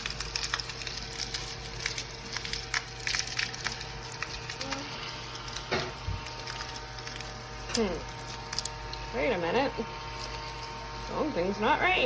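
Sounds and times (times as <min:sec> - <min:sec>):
crumbs crackling and clicking: 0:00.0 - 0:12.0
small vacuum humming: 0:00.0 - 0:12.0.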